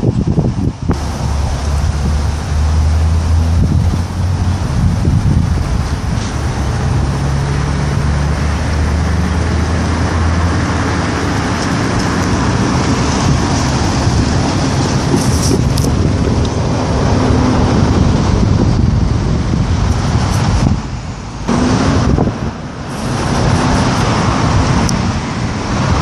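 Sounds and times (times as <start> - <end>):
truck engine humming: 0.4 - 26.0.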